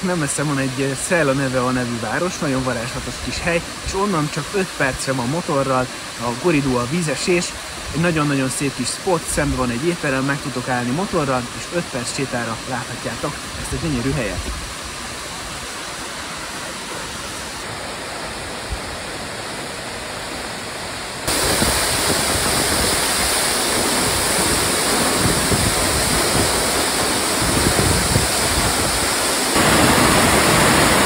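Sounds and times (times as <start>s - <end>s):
waterfall roaring: 0.0s - 31.0s.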